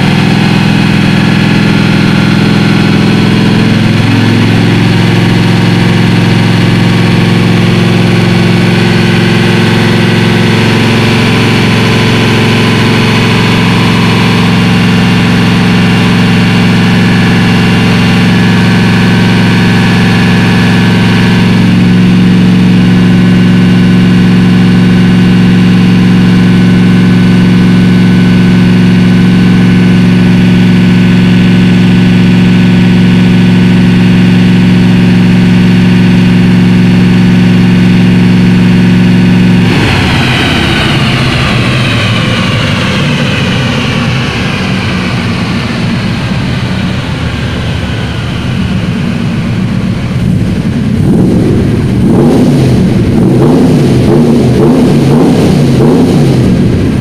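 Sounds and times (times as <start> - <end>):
car engine revving: 0.0 - 57.0
drivetrain whine spinning down: 0.0 - 57.0.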